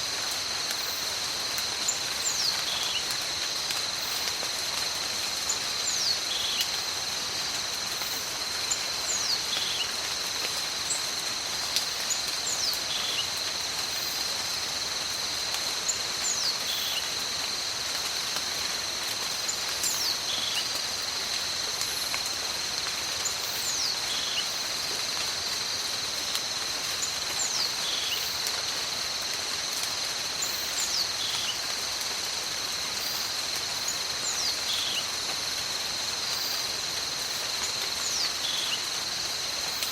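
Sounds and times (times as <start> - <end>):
high insect trill: 0.0 - 39.9
steady rain: 0.0 - 39.9.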